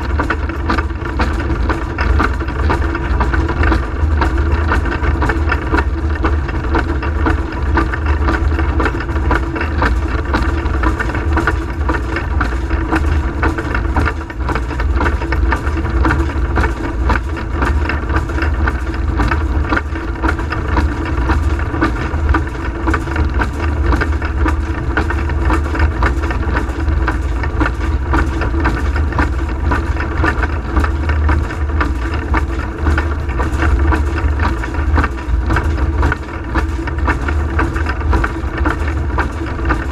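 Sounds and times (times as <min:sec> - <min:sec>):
wheels on rails: 0:00.0 - 0:39.9.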